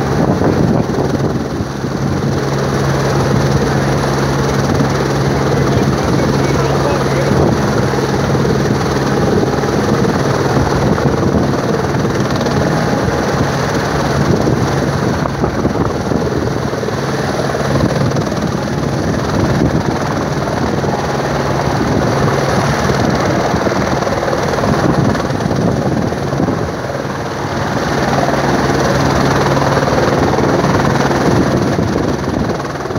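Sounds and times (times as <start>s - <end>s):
helicopter rotor noise: 0.0s - 32.9s.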